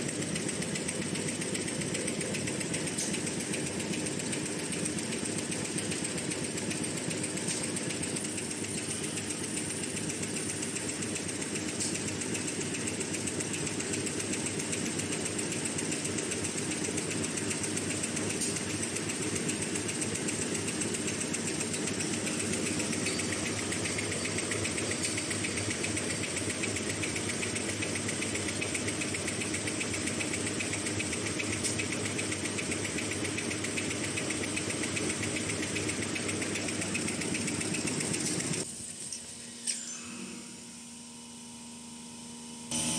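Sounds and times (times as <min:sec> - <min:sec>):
machine rollers clattering: 0:00.0 - 0:38.7.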